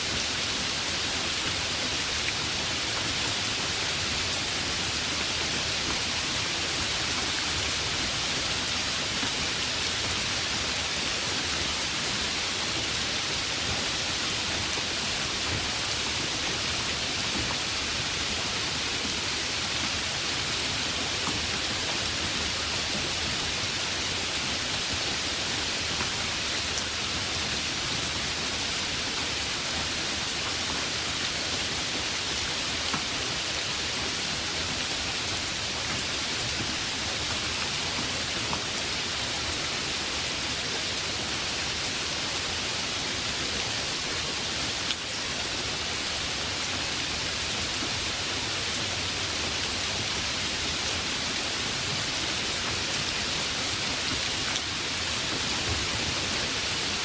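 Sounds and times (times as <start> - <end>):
heavy rain: 0.0 - 57.0
individual raindrops: 0.0 - 57.0.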